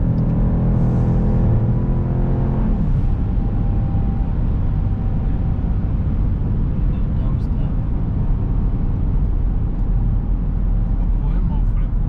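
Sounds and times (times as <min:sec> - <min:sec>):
car engine pulling strongly: 0:00.0 - 0:12.0
road noise: 0:00.0 - 0:12.0.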